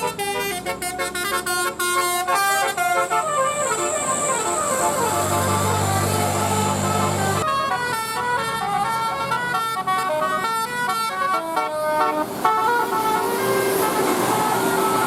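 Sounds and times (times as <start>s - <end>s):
musical air horn melody: 0.0s - 15.0s.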